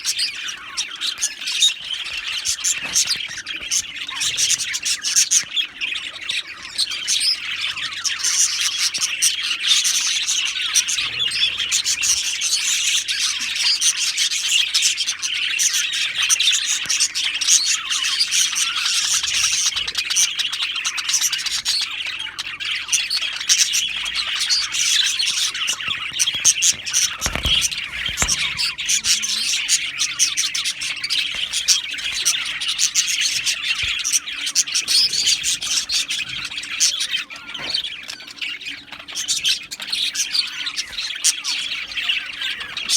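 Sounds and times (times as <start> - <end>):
budgies chattering and chirping: 0.0 - 42.9.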